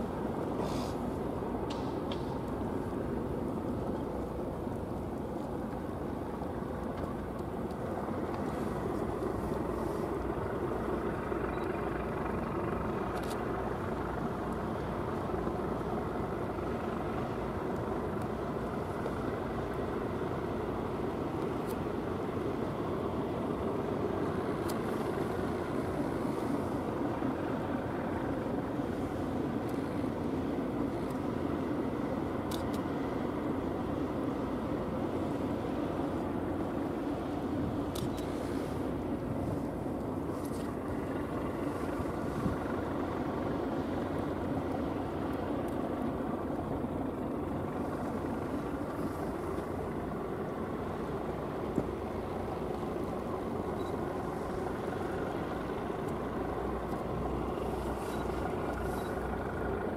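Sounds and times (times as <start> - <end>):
tugboat diesel rumble: 0.0 - 59.9.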